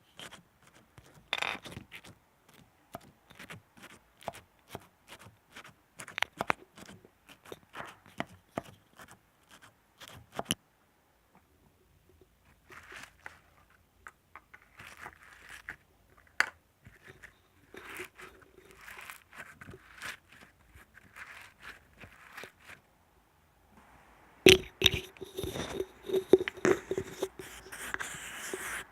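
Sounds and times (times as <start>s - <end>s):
rustling and scratching: 0.0s - 2.7s, 3.3s - 10.5s, 12.4s - 13.8s, 14.4s - 22.9s, 24.5s - 28.9s.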